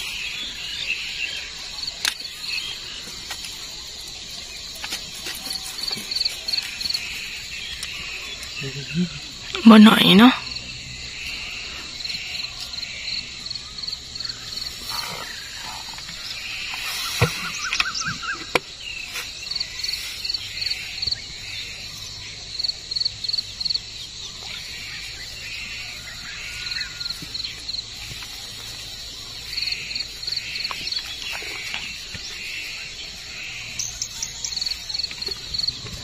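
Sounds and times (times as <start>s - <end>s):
small animals chirping in chorus: 0.0s - 36.0s.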